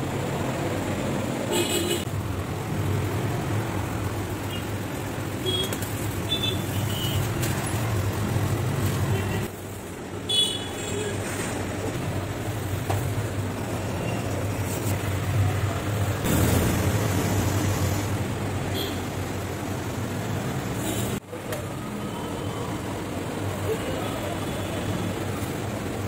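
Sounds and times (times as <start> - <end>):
road traffic rumbling: 0.0 - 26.0.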